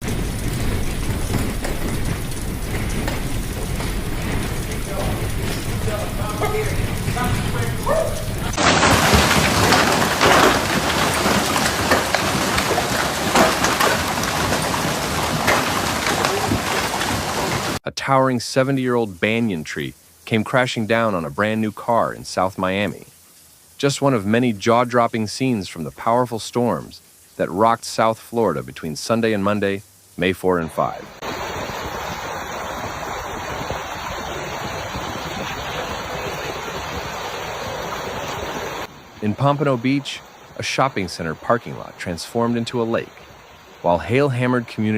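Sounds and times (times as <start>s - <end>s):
heavy rain pelting: 0.0s - 44.9s.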